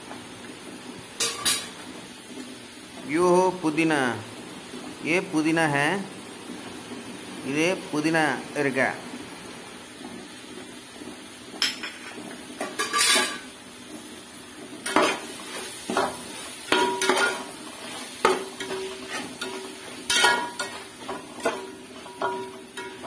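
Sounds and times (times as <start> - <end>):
frying sizzle: 0.0 - 23.0.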